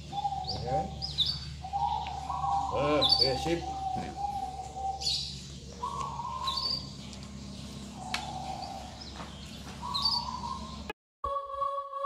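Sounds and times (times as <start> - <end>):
bird whistling song: 0.0 - 7.0, 7.9 - 10.9
steady low hum: 0.0 - 10.9.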